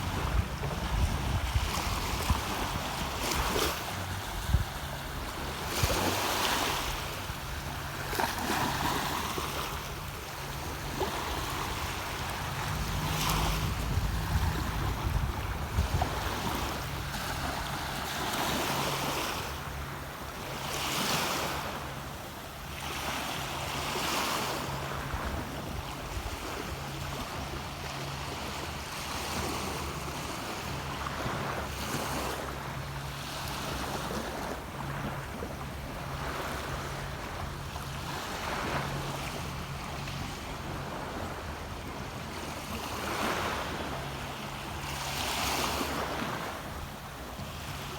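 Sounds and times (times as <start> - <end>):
sea waves on sandy beach: 0.0 - 47.9.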